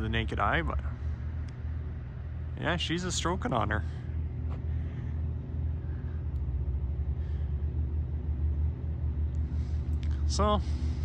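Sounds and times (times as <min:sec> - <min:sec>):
machinery rumbling: 0:00.0 - 0:11.0.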